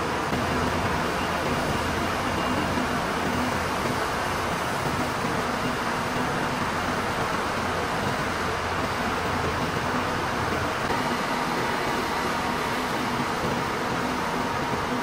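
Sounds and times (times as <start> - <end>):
mill machinery running: 0.0 - 15.0.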